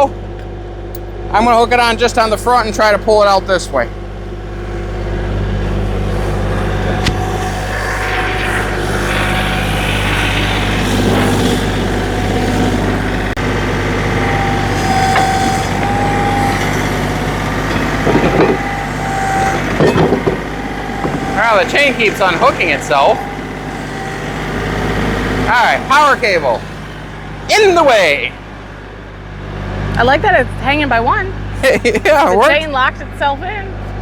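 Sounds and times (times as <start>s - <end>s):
tractor engine running: 0.0s - 34.0s
steady high whine: 0.9s - 34.0s.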